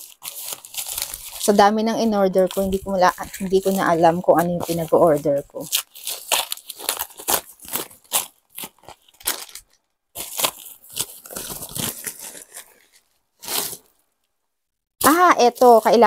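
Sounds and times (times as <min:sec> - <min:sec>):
plastic bag tearing and crinkling: 0:00.0 - 0:13.9.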